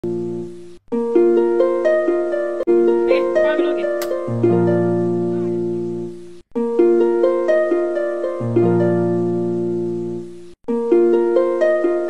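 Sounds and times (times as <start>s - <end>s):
plucked string melody: 0.0s - 12.0s.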